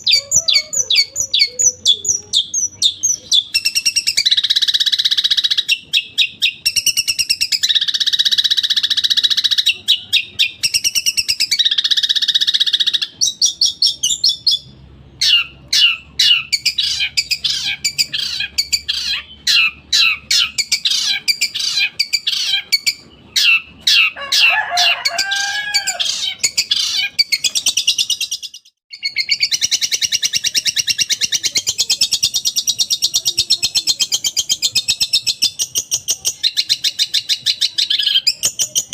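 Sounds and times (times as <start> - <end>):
bird singing harsh rapid notes: 0.0 - 24.6, 25.2 - 38.9.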